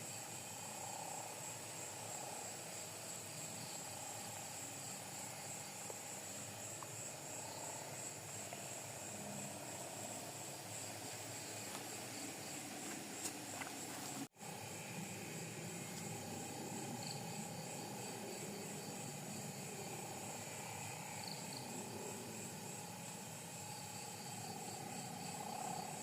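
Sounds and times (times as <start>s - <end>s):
crickets trilling: 0.0s - 26.0s
low pulsing insect chorus: 0.0s - 26.0s.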